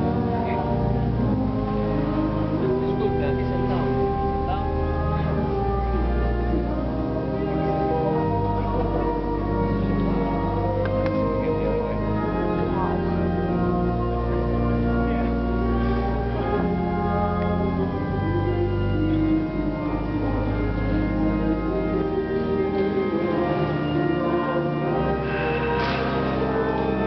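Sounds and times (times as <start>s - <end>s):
pipe organ chords: 0.0s - 27.0s.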